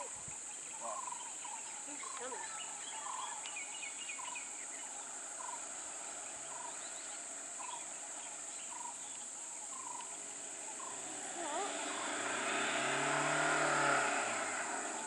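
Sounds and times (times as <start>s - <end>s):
insects droning: 0.0s - 15.0s
other birds chirping: 0.0s - 15.0s.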